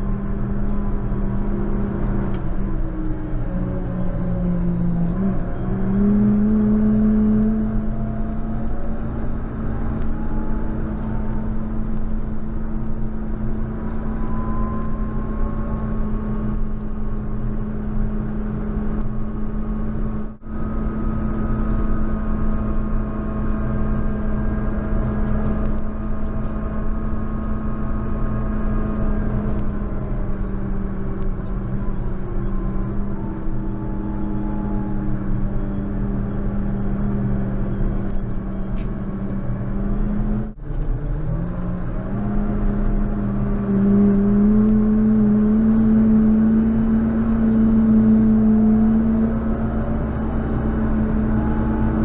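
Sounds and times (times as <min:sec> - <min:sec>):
tractor engine droning under load: 0:00.0 - 0:52.0.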